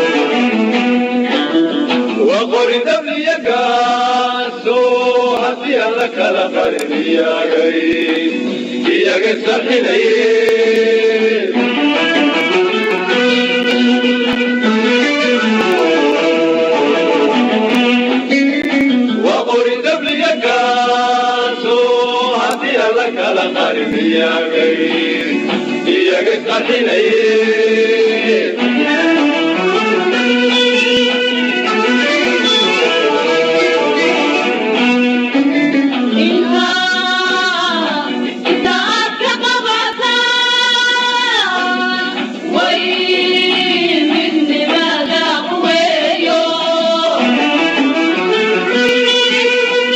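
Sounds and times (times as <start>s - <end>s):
instrumental accompaniment: 0.0s - 49.9s
voices singing long notes: 0.0s - 49.9s.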